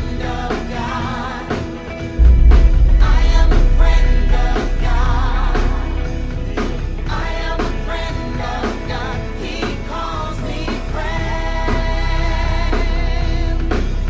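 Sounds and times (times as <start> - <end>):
drum kit steady beat: 0.0 - 14.0
gospel song with band: 0.0 - 14.0.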